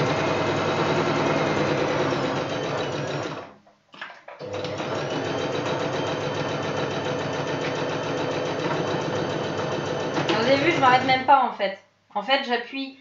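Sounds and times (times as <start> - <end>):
sewing machine stitching: 0.0 - 3.6, 4.4 - 11.3.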